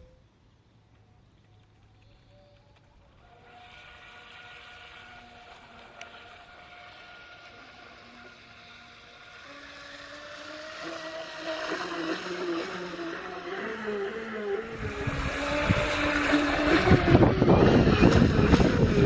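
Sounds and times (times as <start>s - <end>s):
electric motor whine: 2.0s - 19.0s.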